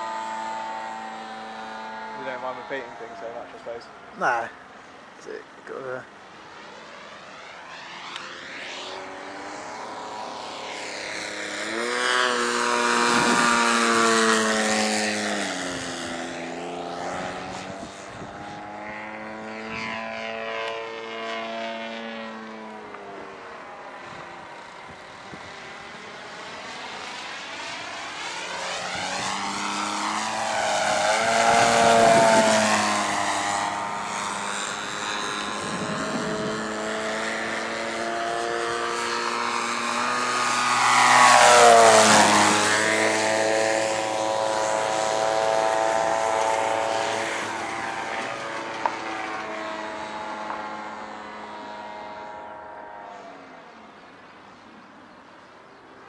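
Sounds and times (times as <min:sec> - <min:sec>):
model plane engine and propeller: 0:00.0 - 0:56.0.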